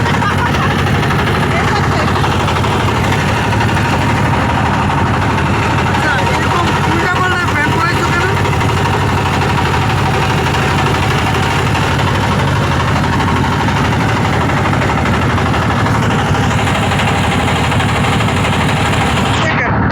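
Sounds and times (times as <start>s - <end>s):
motorboat engine running: 0.0s - 19.9s.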